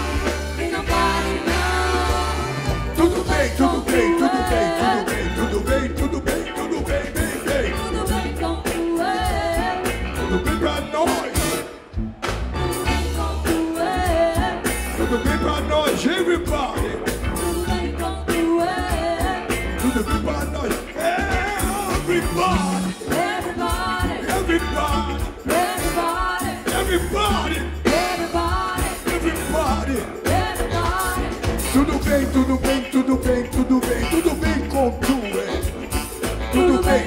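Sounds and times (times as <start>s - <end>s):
person singing: 0.0s - 11.4s, 13.0s - 35.7s, 36.4s - 37.0s
funk band playing: 0.0s - 37.0s
heavy bass line: 0.0s - 37.0s.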